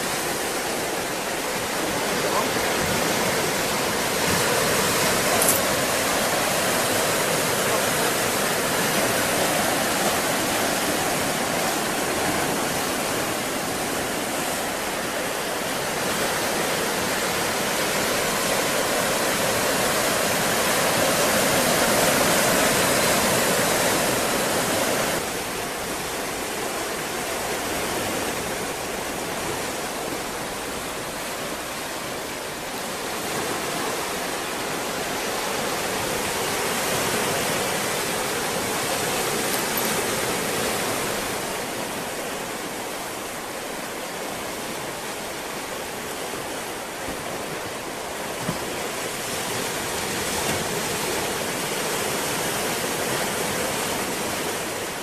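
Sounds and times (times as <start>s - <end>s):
ocean waves rushing: 0.0s - 55.0s.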